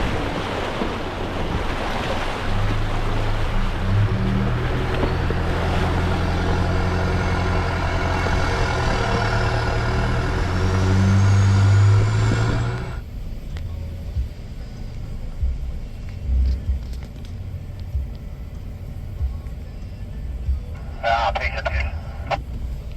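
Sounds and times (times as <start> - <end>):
engine running under load: 0.0 - 22.9.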